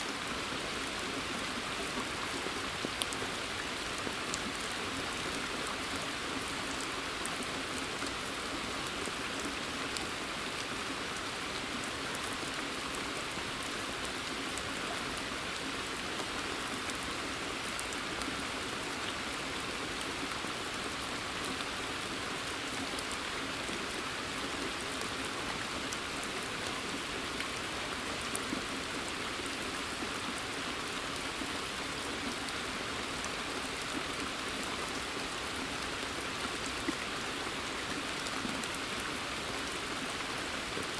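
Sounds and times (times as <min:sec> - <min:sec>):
rain on foliage and water: 0:00.0 - 0:40.9.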